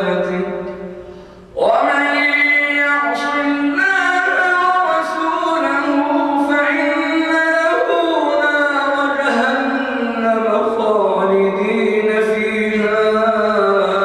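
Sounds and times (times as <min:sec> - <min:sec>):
man chanting into microphone: 0:00.0 - 0:14.0.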